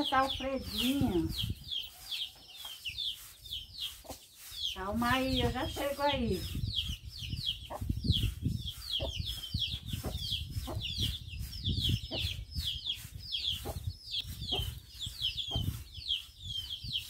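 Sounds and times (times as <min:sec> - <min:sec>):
broom sweeping concrete floor: 0:00.0 - 0:17.0
chicks peeping: 0:00.0 - 0:17.0.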